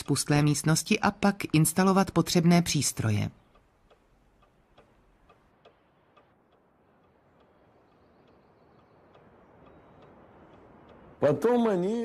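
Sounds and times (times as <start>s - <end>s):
low hiss: 0.0s - 12.0s
faint even ticking: 0.2s - 12.0s.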